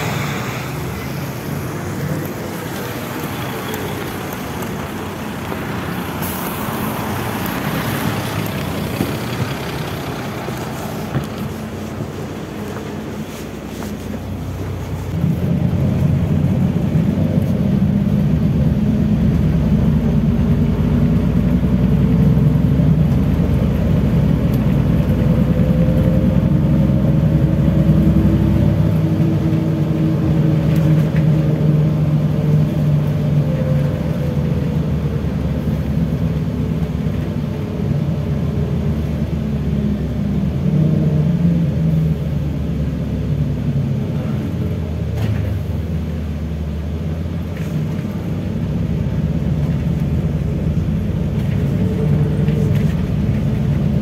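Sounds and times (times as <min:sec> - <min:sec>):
bus engine drone: 0:00.0 - 0:54.0
drivetrain whine: 0:00.0 - 0:54.0.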